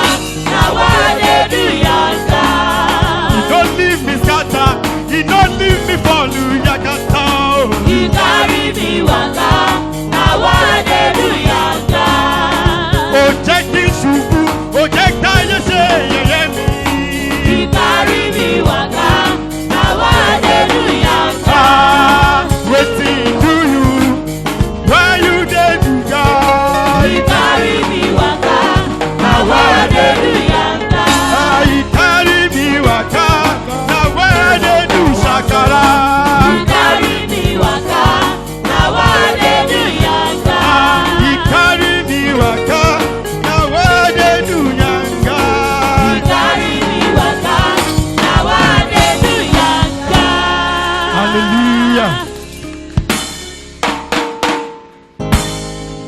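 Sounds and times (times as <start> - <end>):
choir singing gospel: 0.0 - 53.7
band accompaniment: 0.0 - 56.0
drums beating: 0.0 - 56.0.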